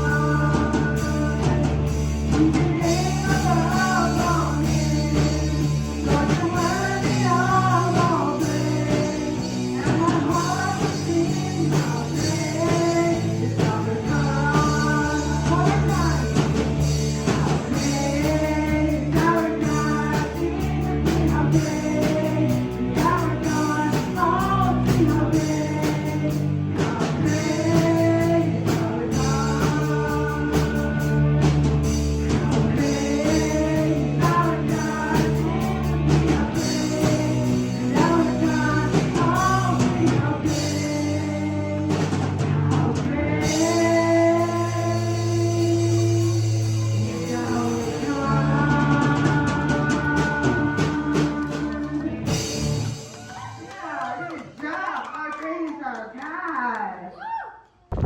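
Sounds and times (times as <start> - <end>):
instruments with sustained bass: 0.0 - 52.9
person singing: 0.0 - 52.9.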